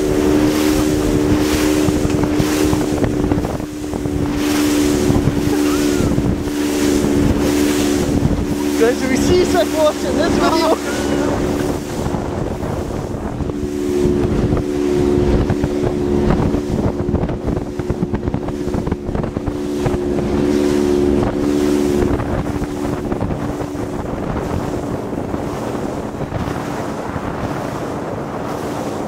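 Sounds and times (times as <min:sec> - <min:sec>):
boat engine running: 0:00.0 - 0:29.0
wind buffeting microphone: 0:00.0 - 0:29.0.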